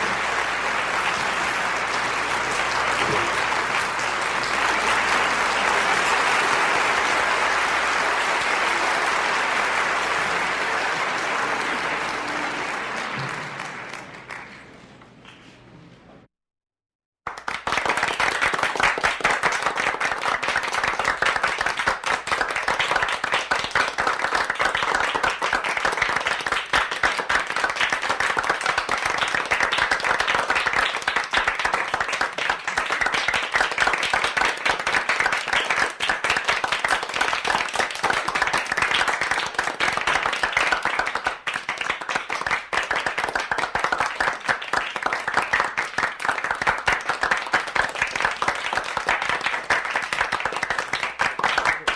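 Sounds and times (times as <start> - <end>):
crowd applauding: 0.0 - 14.9, 17.3 - 51.9.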